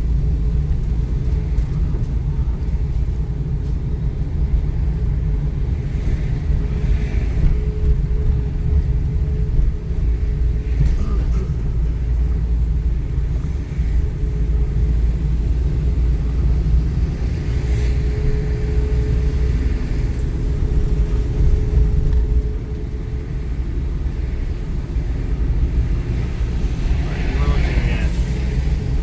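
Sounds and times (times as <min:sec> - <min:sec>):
gusty wind buffeting microphone: 0:00.0 - 0:29.0.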